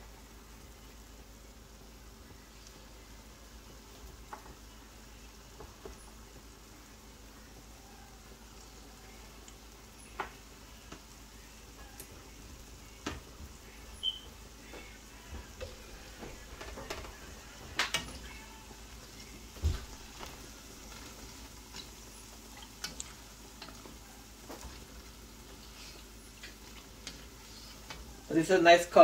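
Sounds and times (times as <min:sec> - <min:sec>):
fritters sizzling in oil: 0:00.0 - 0:29.0.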